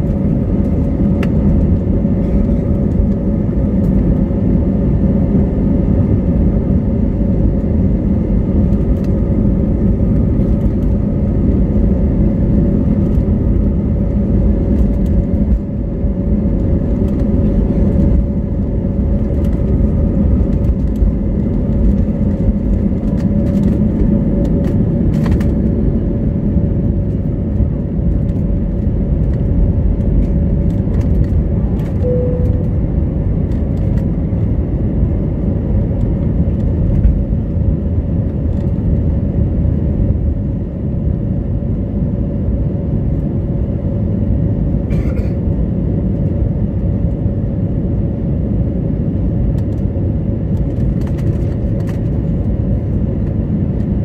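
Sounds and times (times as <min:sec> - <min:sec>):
steady hum: 0:00.0 - 0:46.2
jet engine rumble in cabin: 0:00.0 - 0:54.0.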